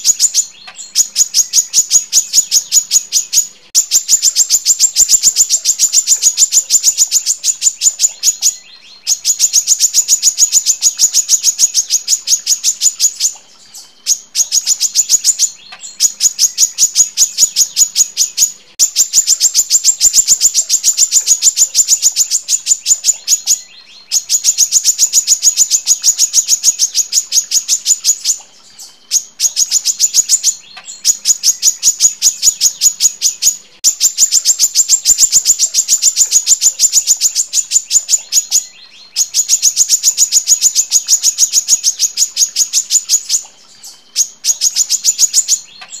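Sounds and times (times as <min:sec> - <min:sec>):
bird chirping rapidly: 0:00.0 - 0:46.0.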